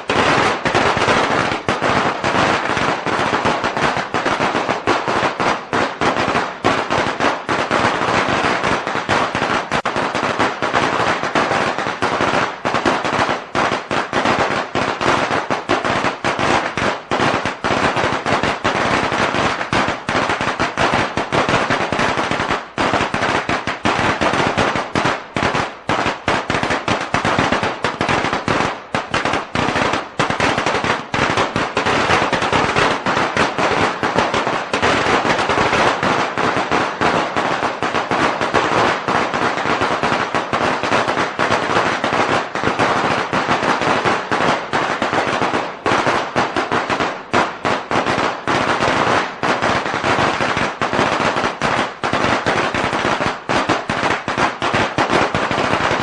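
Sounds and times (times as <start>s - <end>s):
firecrackers banging: 0.0s - 56.0s.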